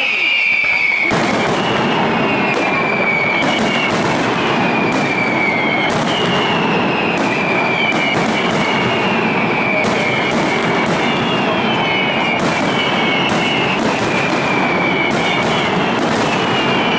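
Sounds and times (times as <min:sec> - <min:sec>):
falling firework whistle: 0:00.0 - 0:16.9
fireworks crackle and rumble: 0:00.0 - 0:16.9
sharp firework bangs: 0:00.0 - 0:16.9.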